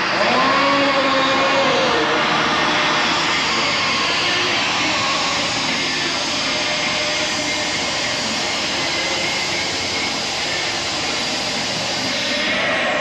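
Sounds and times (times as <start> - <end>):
tractor engine running flat out: 0.0 - 13.0.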